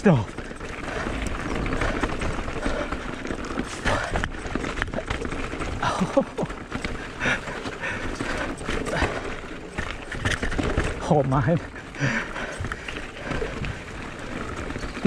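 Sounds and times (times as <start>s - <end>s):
bike rattling over bumps: 0.0s - 15.0s
bike tyres crunching over dirt: 0.0s - 15.0s.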